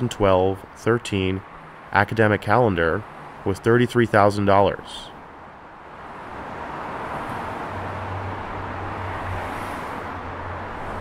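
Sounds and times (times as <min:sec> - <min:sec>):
city traffic noise: 0:00.0 - 0:11.0.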